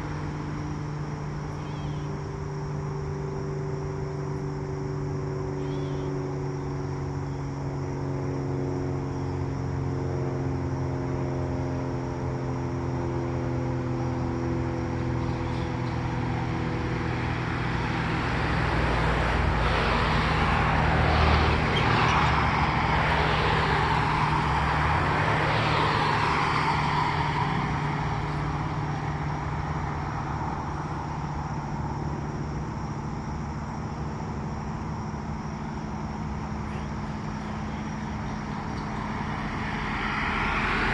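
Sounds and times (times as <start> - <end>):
low engine hum: 0.0 - 40.9
road vehicle passing: 0.0 - 40.9.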